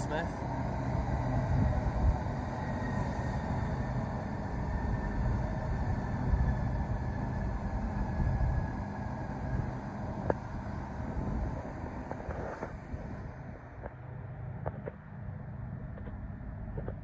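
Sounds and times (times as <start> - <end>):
electric train rumble and whine: 0.0 - 17.0.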